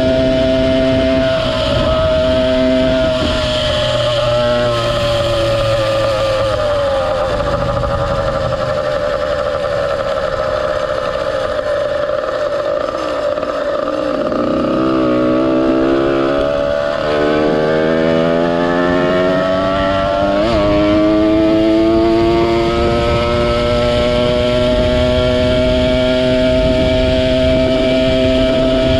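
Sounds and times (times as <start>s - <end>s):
two-stroke engine running: 0.0s - 28.9s.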